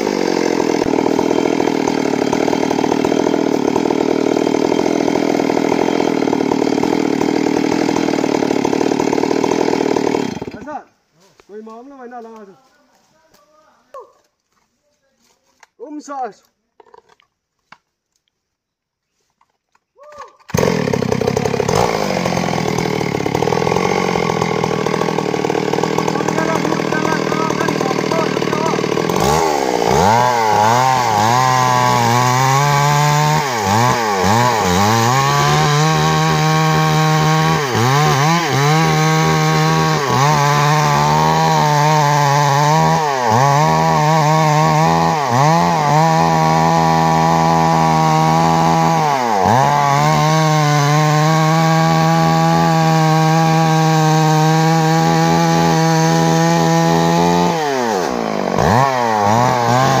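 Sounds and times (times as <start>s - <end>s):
chainsaw cutting tree trunk: 0.0s - 10.8s, 20.5s - 60.0s.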